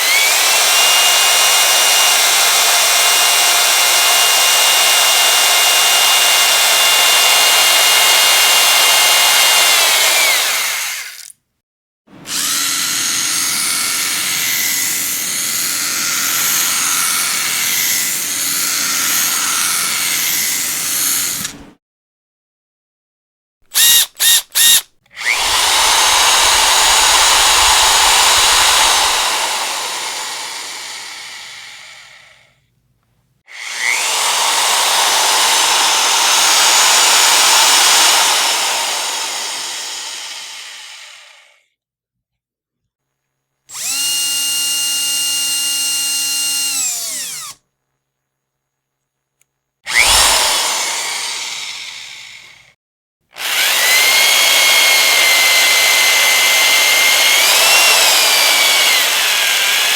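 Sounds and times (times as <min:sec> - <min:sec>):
electric power drill whining: 0:00.0 - 0:11.3, 0:12.2 - 0:21.6, 0:23.7 - 0:32.5, 0:33.5 - 0:41.6, 0:43.7 - 0:47.6, 0:49.9 - 0:52.8, 0:53.4 - 0:59.9.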